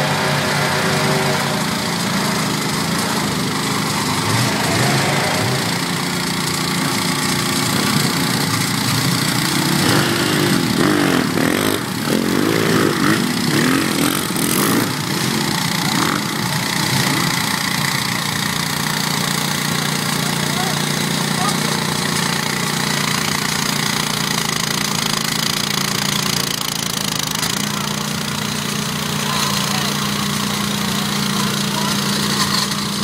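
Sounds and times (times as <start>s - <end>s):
garden tractor engine running: 0.0s - 33.0s.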